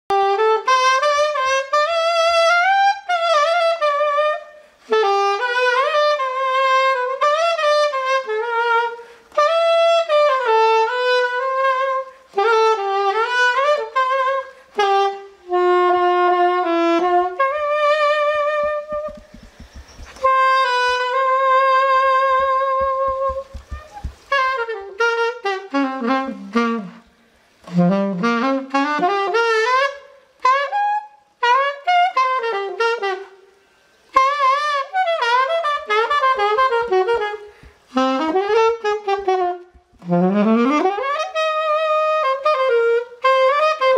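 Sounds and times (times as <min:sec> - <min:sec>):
solo alto saxophone melody: 0:00.1 - 0:43.9.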